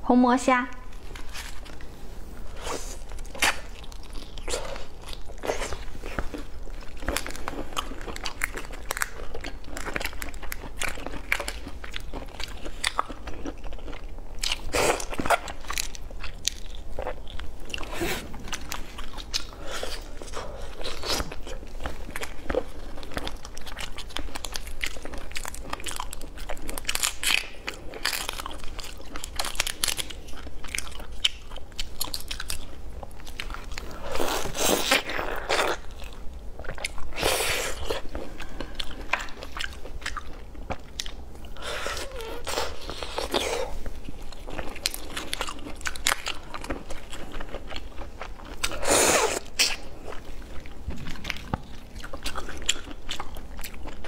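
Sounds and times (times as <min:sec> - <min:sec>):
crunching bites and chewing: 0:02.5 - 0:54.0.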